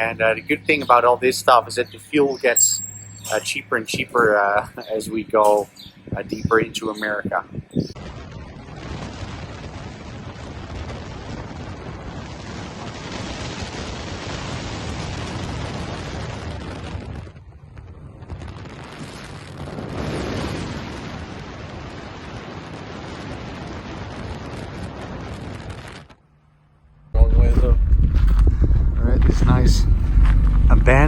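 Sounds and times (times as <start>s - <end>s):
wind on microphone: 3.0s - 26.2s, 27.1s - 31.0s.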